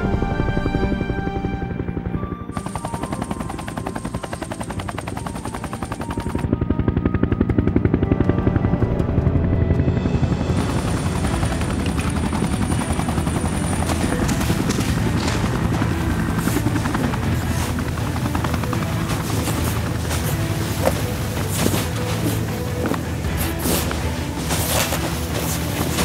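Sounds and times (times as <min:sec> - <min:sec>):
helicopter rotor chop: 0:00.0 - 0:26.0.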